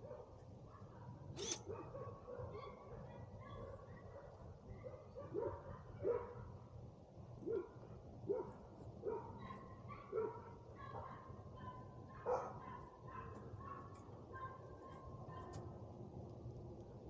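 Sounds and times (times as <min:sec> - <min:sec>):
dog barking: 0:00.0 - 0:06.5, 0:07.4 - 0:15.6.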